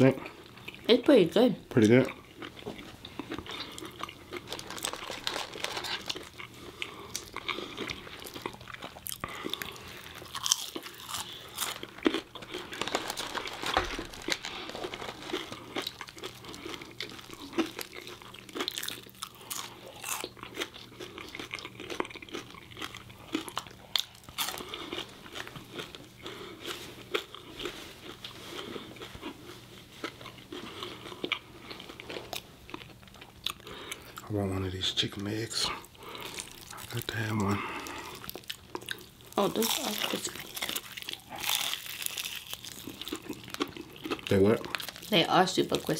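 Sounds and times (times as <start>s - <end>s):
crunchy chewing: 1.9s - 34.3s, 35.7s - 45.2s.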